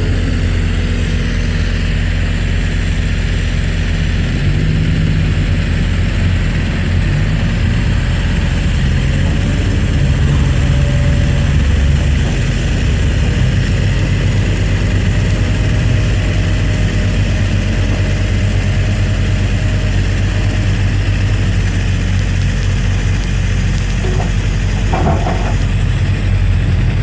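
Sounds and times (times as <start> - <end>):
diesel machinery engine running: 0.0 - 27.0.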